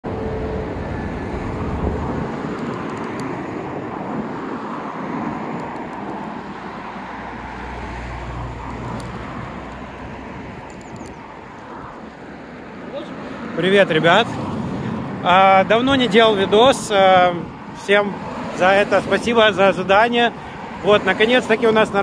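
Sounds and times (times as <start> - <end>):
street traffic noise: 0.0 - 22.0
vehicle passing rumble: 0.0 - 22.0.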